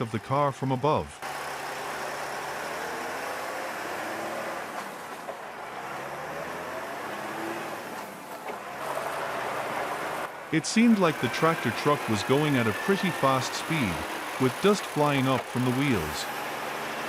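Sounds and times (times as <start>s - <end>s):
truck engine driving: 0.0s - 17.0s.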